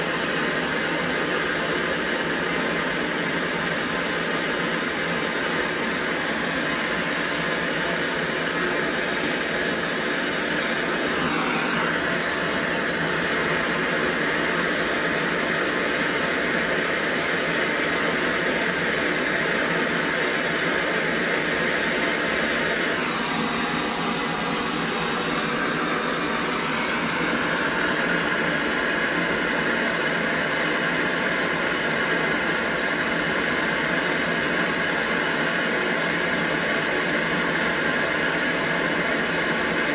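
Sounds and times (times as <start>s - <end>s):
gas torch hissing: 0.0s - 39.9s.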